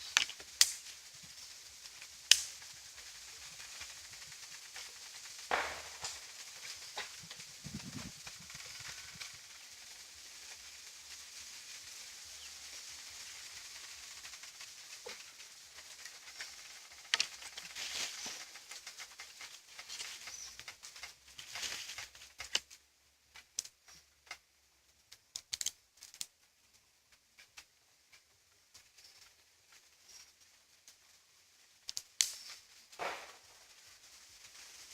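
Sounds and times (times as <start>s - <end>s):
steady hiss: 0.0s - 34.9s
straw and twigs crackling: 0.0s - 34.9s.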